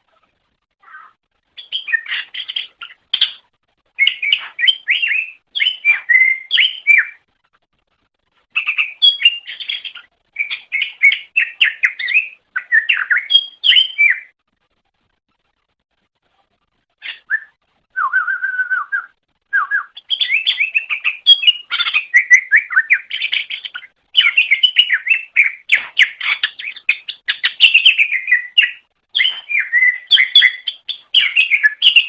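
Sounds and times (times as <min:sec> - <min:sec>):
bird chirping and whistling: 0:01.6 - 0:03.4, 0:04.0 - 0:07.2, 0:08.6 - 0:14.3, 0:17.0 - 0:32.0.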